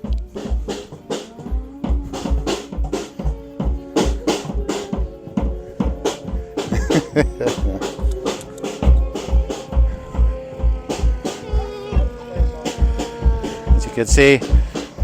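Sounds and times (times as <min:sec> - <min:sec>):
kick drum beat: 0:00.0 - 0:15.0
live band playing: 0:00.0 - 0:15.0
sharp drum hits: 0:00.0 - 0:15.0.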